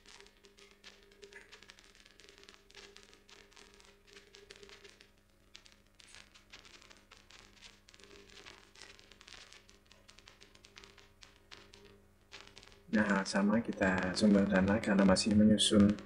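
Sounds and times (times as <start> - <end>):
faint crackling clicks: 0.0 - 16.0.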